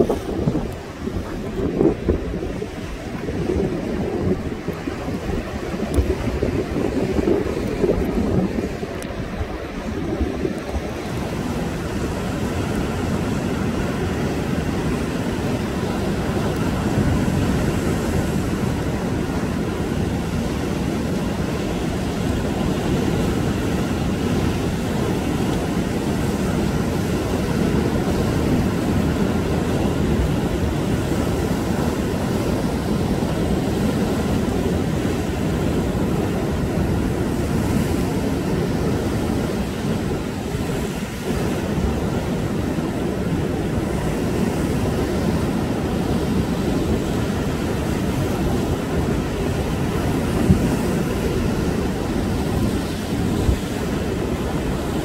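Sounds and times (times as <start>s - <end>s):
surf breaking over rocks: 0.0s - 55.0s.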